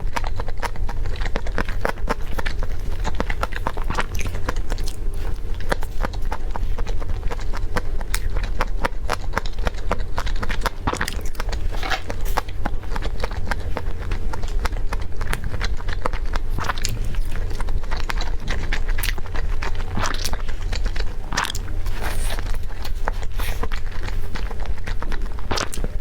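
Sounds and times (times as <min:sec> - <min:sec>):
low hum: 0:00.0 - 0:26.0
person chewing crunchy food: 0:00.0 - 0:26.0.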